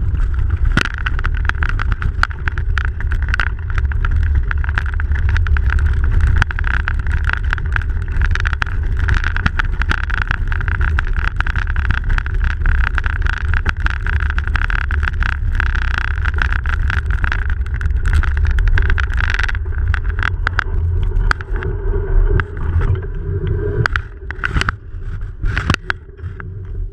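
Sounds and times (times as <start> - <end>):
bicycle tyres rolling over snow: 0.0 - 26.9
wind buffeting camera: 0.0 - 26.9.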